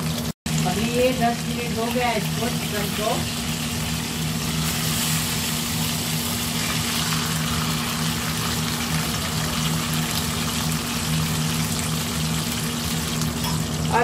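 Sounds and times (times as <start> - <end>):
oil sizzling in a pan: 0.0 - 14.0
steady low hum: 0.5 - 14.0.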